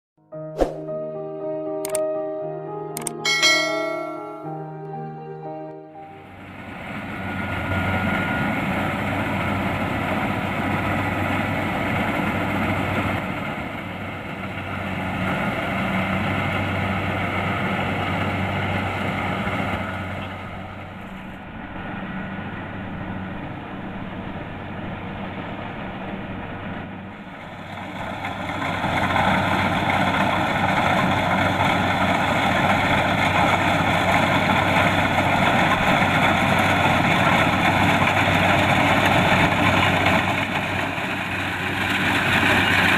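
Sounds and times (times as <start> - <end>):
diesel engine running: 6.0 - 42.9.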